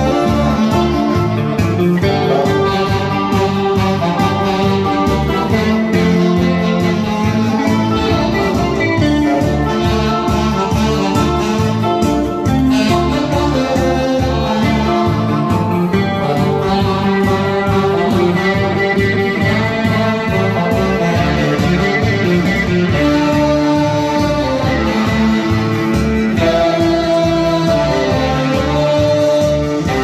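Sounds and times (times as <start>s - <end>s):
backing track with steady beat: 0.0s - 30.0s
tenor saxophone melody: 0.0s - 30.0s.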